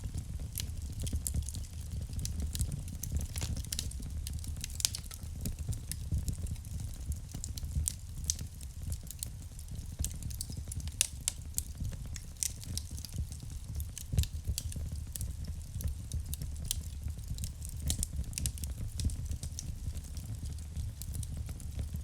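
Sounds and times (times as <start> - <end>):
burning logs crackling: 0.0 - 22.0
fire flames rumbling: 0.0 - 22.0.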